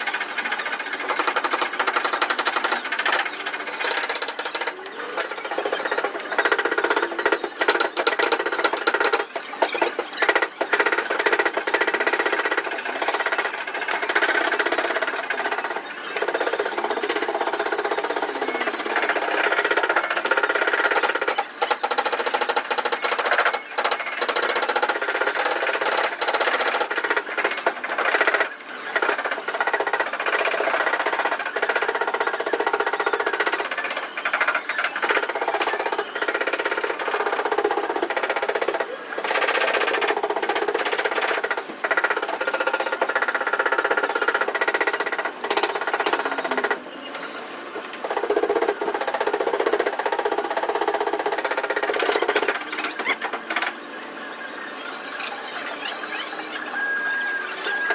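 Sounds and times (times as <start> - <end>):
power tool hammering: 0.0 - 46.8.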